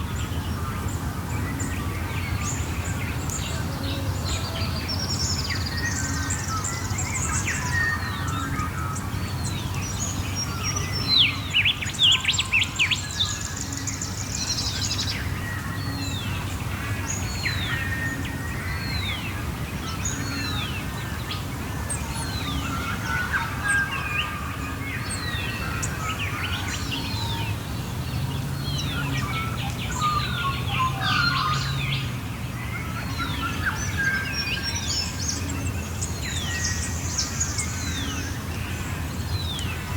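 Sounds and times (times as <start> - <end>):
birds chirping and calling: 2.5 - 39.9.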